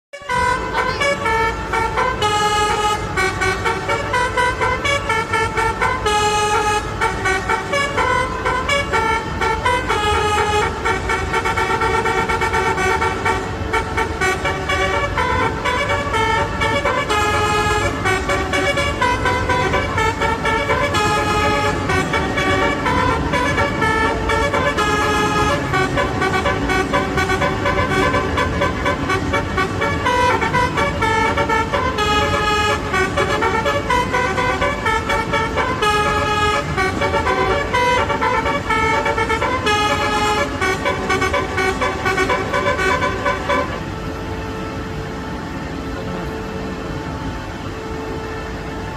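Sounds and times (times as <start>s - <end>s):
train horn sounding: 0.2s - 48.9s.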